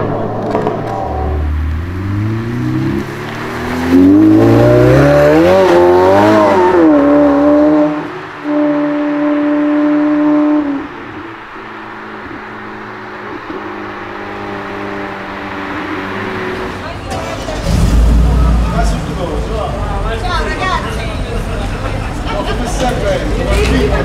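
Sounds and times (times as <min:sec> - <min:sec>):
car engine accelerating hard: 0:00.0 - 0:20.2.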